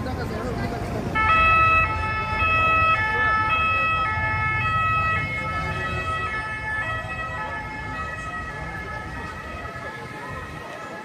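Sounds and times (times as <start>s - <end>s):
street traffic rumble: 0.0s - 11.0s
two-tone emergency siren: 0.6s - 11.0s.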